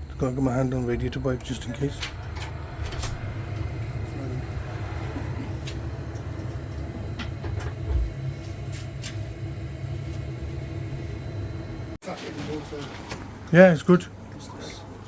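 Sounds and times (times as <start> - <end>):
boiler burner and fan rumbling: 0.0 - 15.0
faint hum: 0.0 - 15.0.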